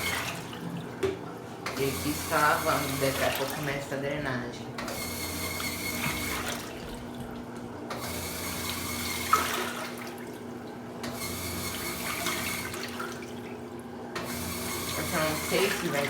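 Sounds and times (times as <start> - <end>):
washing machine motor hum: 0.0 - 16.0
washing machine water swishing: 0.0 - 16.0.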